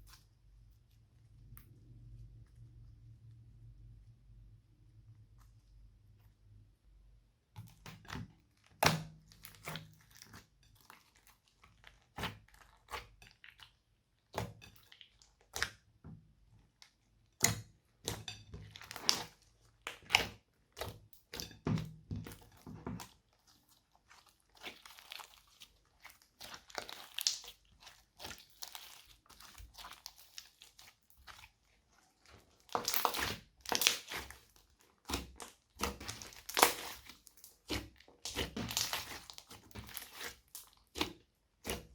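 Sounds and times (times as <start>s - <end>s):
slime squishing and crackling: 7.6s - 41.9s.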